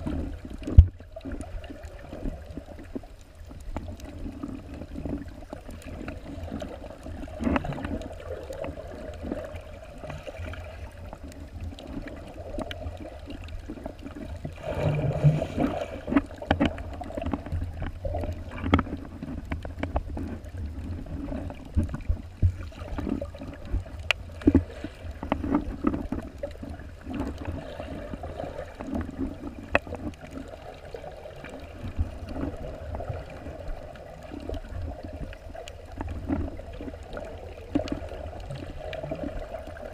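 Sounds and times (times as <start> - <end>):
clicks and crackles: 0.0 - 39.9
gurgling water: 0.0 - 39.9
underwater low rumble: 0.0 - 39.9.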